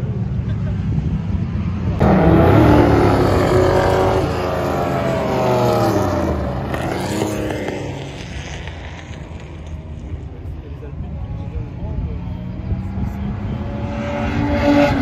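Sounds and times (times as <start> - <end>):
sports cars racing past: 0.0 - 15.0.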